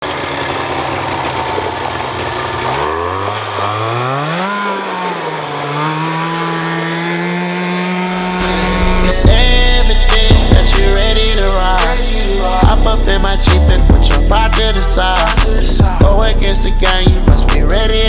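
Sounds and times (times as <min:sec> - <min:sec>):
go-kart engine revving: 0:00.0 - 0:18.0.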